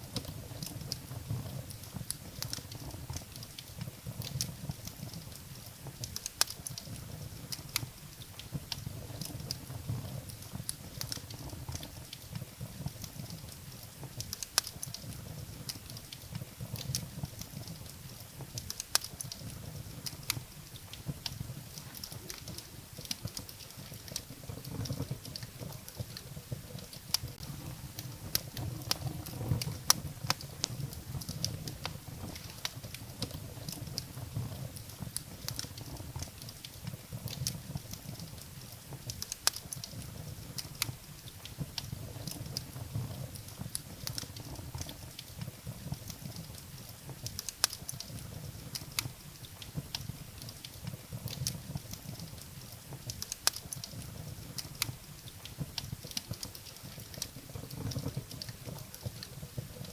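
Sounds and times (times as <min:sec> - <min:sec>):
firewood crackling and popping: 0:00.0 - 0:59.9
low rumble of flames: 0:00.0 - 0:59.9.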